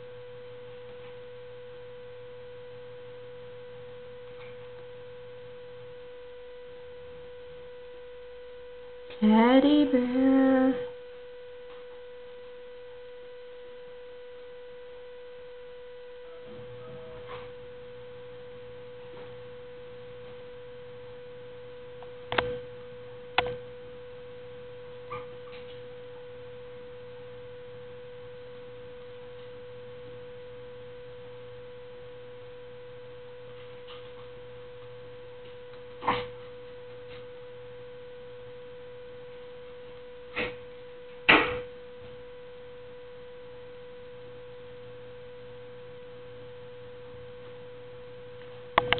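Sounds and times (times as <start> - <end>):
high-pitched hum: 0.0 - 48.9
lower hum: 0.0 - 48.9.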